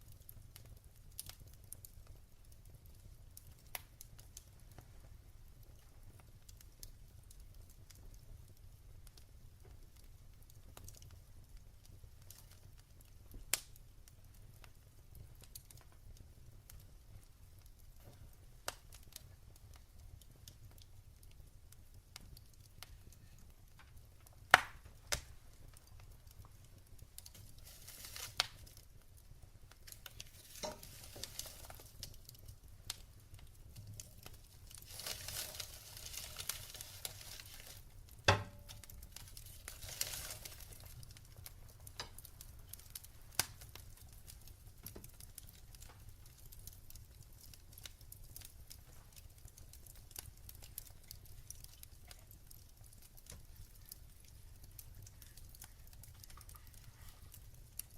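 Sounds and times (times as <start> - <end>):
soft hiss: 0.0 - 57.9
wood fire crackling: 0.0 - 57.9.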